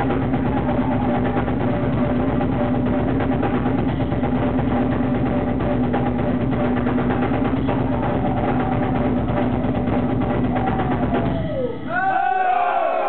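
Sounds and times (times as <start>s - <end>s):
rapid kick drum beats: 0.0s - 11.9s
rock drum solo: 0.0s - 12.1s.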